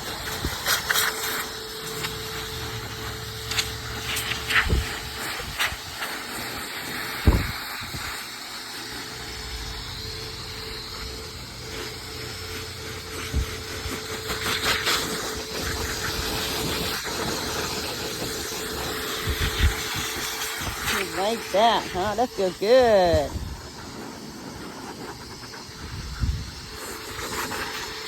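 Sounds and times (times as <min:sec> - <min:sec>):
electric blower whining: 0:00.0 - 0:28.0.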